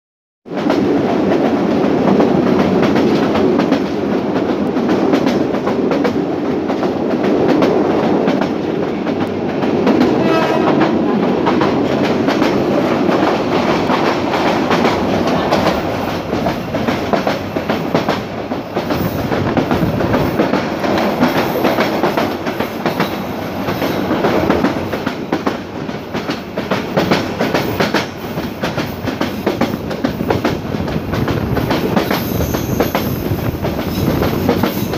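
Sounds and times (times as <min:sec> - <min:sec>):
clickety-clack over rail joints: 0:00.5 - 0:34.9.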